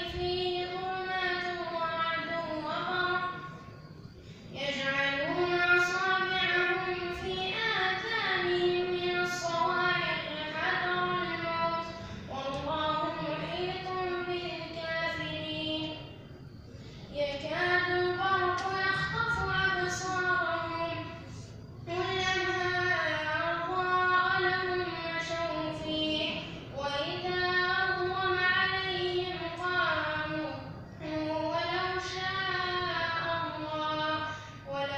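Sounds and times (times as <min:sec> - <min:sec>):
boy chanting recitation: 0:00.0 - 0:34.9.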